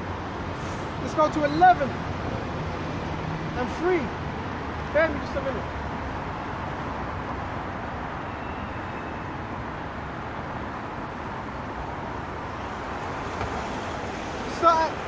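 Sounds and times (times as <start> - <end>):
steady rushing background noise: 0.0 - 15.0.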